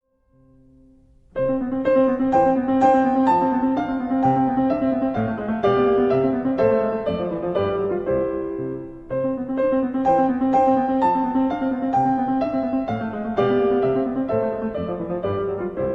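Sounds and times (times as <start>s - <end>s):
piano melody: 0.1s - 15.9s.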